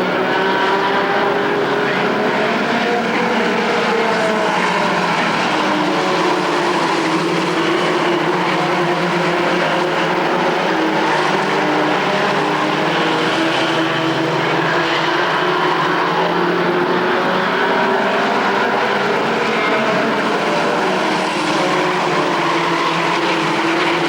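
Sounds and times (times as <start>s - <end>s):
race truck engines droning: 0.0s - 24.0s.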